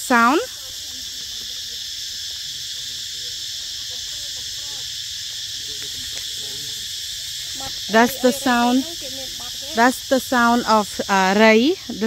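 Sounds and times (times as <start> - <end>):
cicadas buzzing chorus: 0.0 - 12.0.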